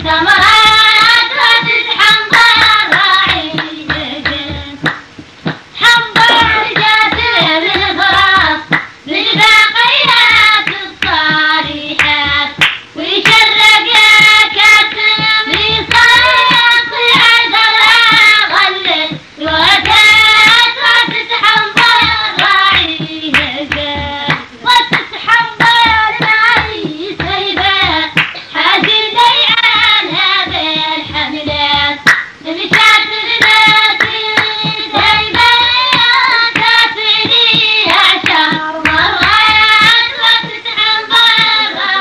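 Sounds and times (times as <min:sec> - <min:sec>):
sharp hand claps: 0:00.5 - 0:41.8
high voice singing: 0:05.7 - 0:42.0.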